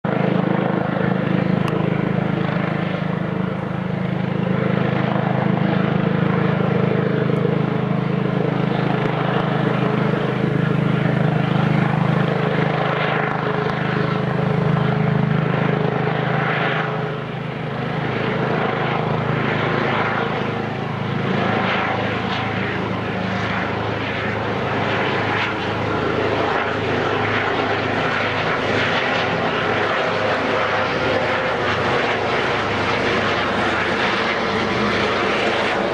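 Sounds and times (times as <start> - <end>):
helicopter rotor and engine: 0.0 - 35.9.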